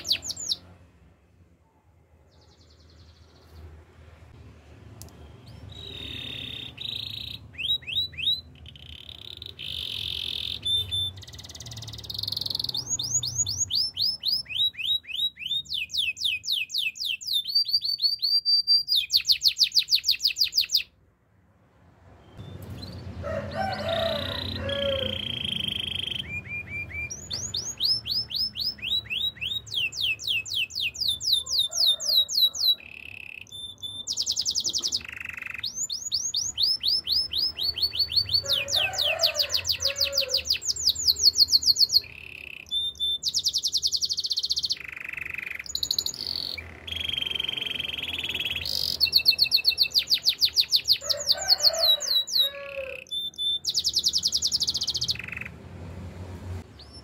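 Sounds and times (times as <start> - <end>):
canary singing trills: 0.0 - 0.8, 5.1 - 21.0, 22.1 - 55.6.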